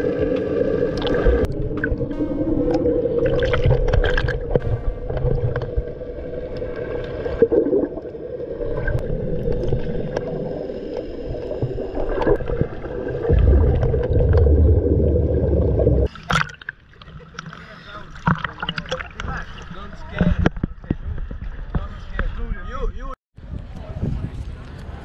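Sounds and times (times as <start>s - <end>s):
water gurgling: 0.0s - 21.8s
underwater hum: 0.0s - 22.2s
low underwater rumbling: 0.0s - 22.4s.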